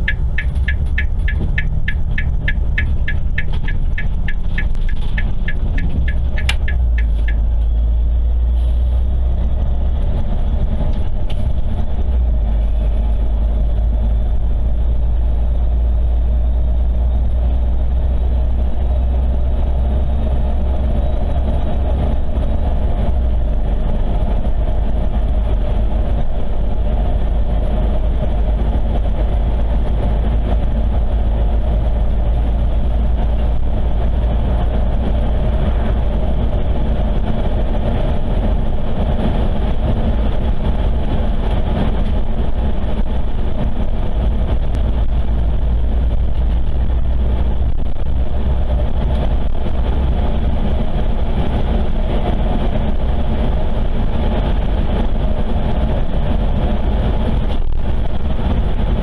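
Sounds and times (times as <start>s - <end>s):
car driving on paved road: 0.0s - 59.0s.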